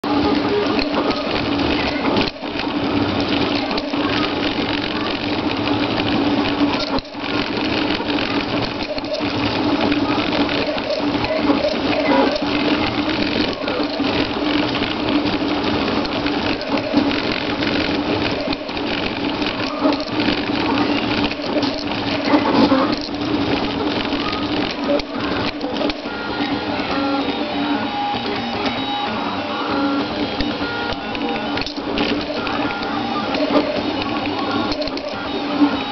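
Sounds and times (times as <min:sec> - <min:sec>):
printer carriages rattling: 0:00.0 - 0:35.9
steady hum: 0:00.0 - 0:35.9
stepper motors buzzing: 0:00.0 - 0:35.9.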